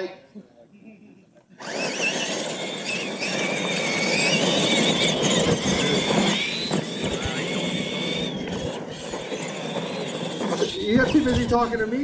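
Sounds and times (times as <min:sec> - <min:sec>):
electric toy truck motors whining: 0:01.4 - 0:12.0.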